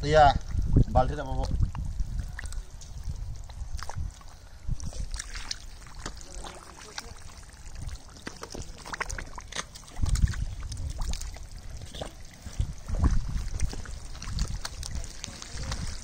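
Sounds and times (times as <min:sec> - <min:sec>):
muddy water splashing: 0:00.1 - 0:16.0.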